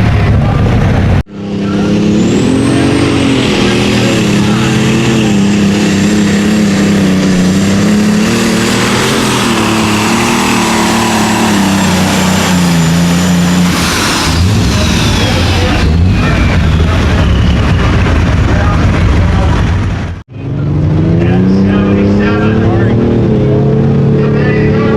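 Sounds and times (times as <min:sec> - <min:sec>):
diesel engine running under load: 0:00.0 - 0:24.9
high whine: 0:00.0 - 0:24.9.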